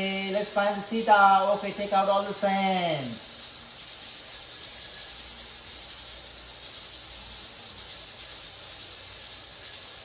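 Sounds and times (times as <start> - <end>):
high-pitched background hiss: 0.0 - 10.0.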